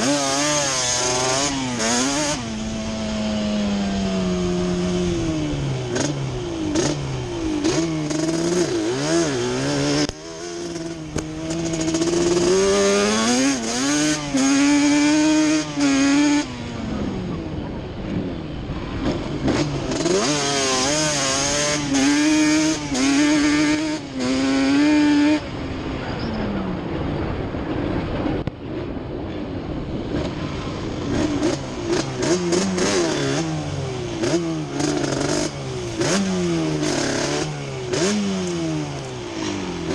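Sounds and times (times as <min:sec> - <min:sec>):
two-stroke engine revving: 0:00.0 - 0:17.8, 0:19.0 - 0:25.5, 0:31.0 - 0:39.9.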